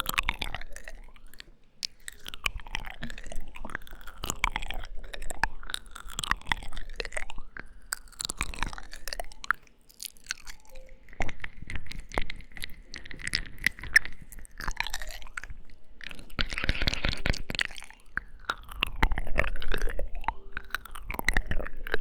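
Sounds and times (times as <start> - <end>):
wet mouth clicks and lip smacks: 0.0 - 22.0.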